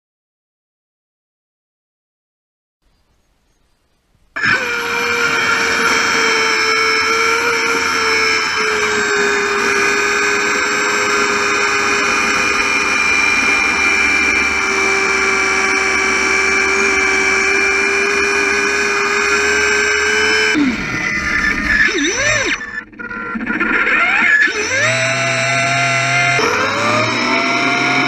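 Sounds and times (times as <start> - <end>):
electric motor whining: 4.4 - 28.0
rough swooping motor sound: 4.4 - 28.0.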